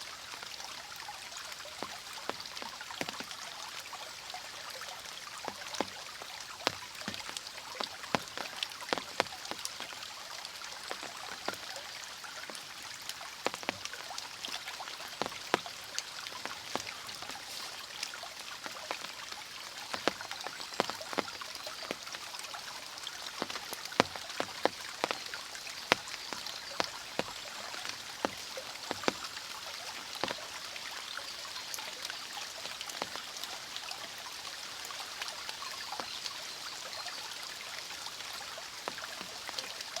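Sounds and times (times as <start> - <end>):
mountain stream rushing: 0.0 - 40.0
water drips and splashes: 0.0 - 40.0.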